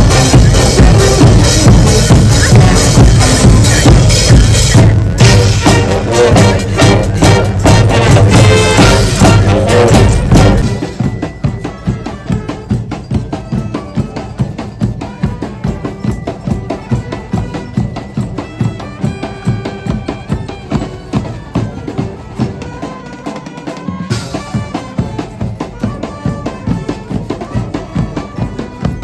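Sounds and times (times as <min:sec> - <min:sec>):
steady percussive beat: 0:00.0 - 0:29.0.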